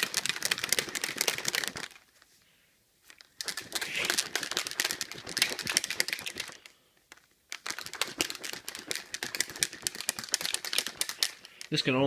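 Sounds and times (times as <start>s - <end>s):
shaker bottle rattling: 0.0s - 2.2s, 3.1s - 12.0s.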